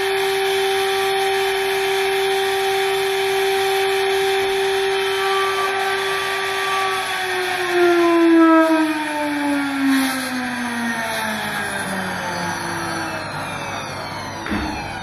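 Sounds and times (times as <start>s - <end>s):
spindle high whine: 0.0s - 15.0s.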